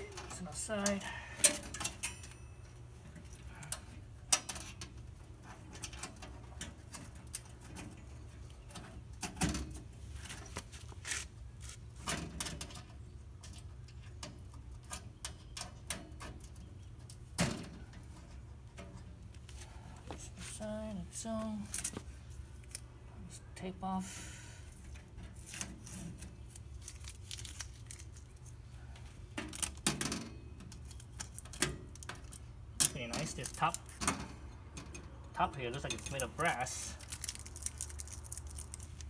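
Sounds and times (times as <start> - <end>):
low background hum: 0.0 - 39.0.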